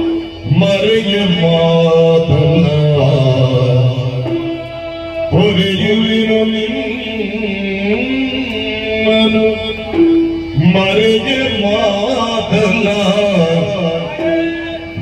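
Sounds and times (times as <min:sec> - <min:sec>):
man singing long held note: 0:00.0 - 0:15.0
steady drone: 0:00.0 - 0:15.0.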